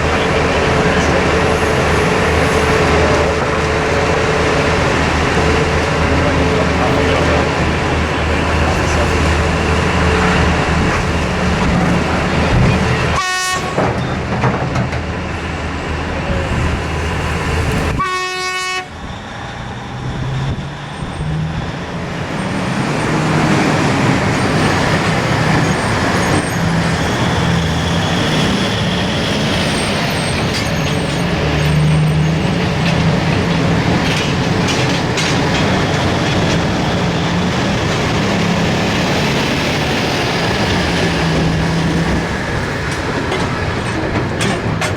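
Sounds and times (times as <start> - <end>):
excavator engines running: 0.0 - 18.0, 18.9 - 44.9.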